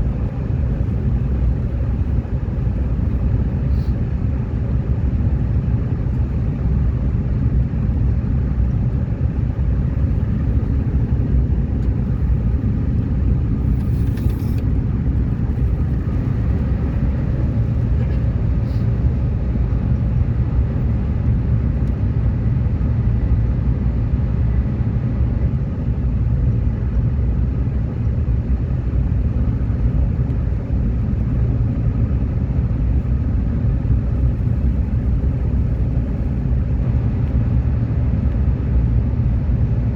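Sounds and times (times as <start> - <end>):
subway train rumbling on track: 0.0 - 39.9.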